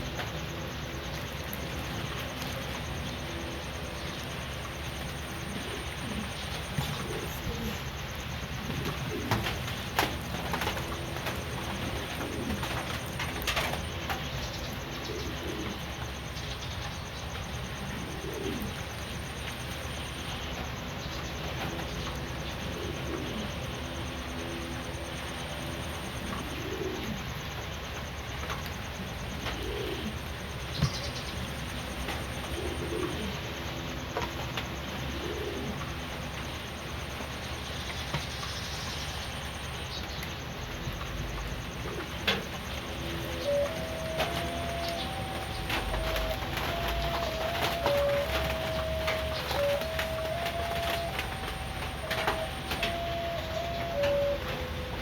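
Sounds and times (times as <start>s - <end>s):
pigeons cooing: 0.0s - 27.7s, 28.4s - 37.0s, 41.0s - 55.0s
steady background hiss: 0.0s - 55.0s.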